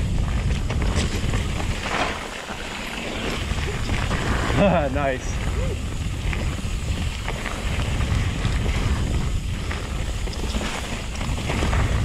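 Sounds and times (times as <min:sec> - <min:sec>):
bike clicks and rattles: 0:00.0 - 0:12.0
bike tyres rumbling on dirt: 0:00.0 - 0:12.0
wind buffeting microphone: 0:00.0 - 0:12.0.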